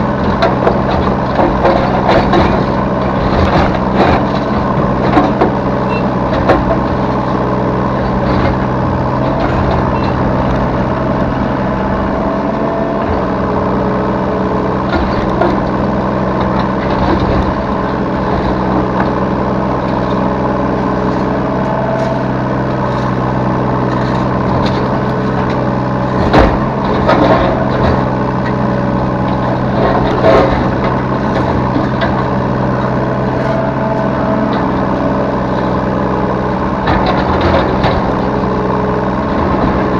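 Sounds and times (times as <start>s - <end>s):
excavator diesel engine running: 0.0s - 39.9s
knocks and clanks: 0.2s - 7.2s, 8.0s - 34.9s, 36.6s - 38.4s.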